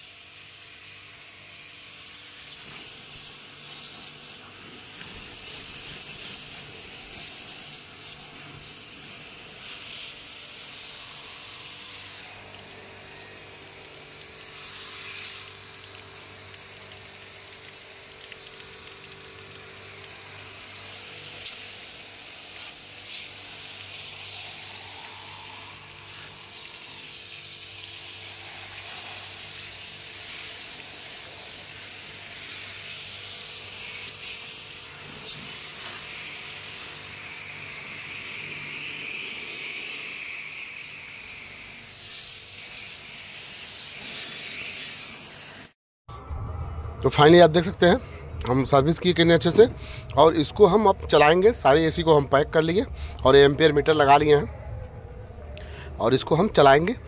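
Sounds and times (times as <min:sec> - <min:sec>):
pressure washer water jet hissing: 0:00.0 - 0:45.8
steady low hum: 0:02.0 - 0:41.8, 0:46.1 - 0:57.0.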